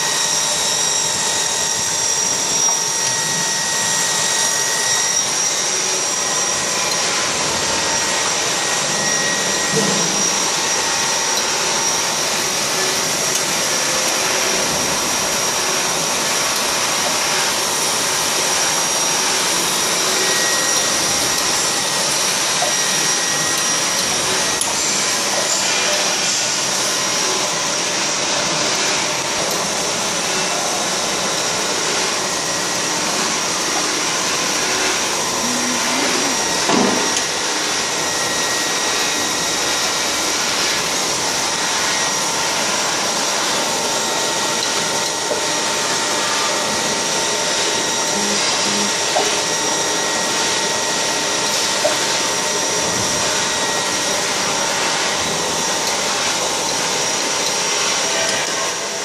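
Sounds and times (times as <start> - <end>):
factory machinery whirring: 0.0 - 59.0.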